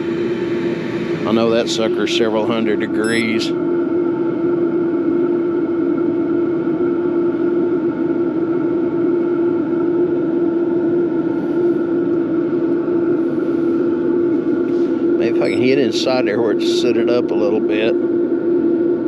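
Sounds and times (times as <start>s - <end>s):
air heater humming: 0.0s - 19.0s.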